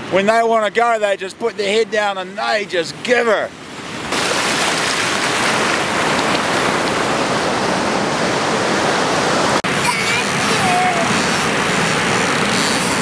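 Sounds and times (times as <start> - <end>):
surf rushing: 0.0 - 13.0.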